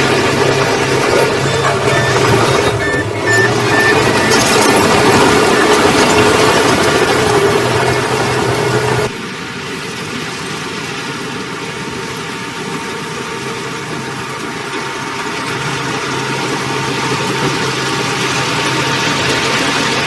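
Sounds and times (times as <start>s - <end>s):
construction machine engine running: 0.0s - 20.0s.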